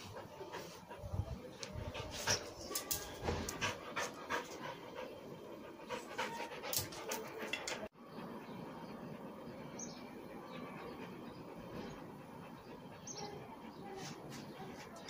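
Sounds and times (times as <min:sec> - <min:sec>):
dog panting: 0:00.0 - 0:07.9, 0:10.6 - 0:15.0.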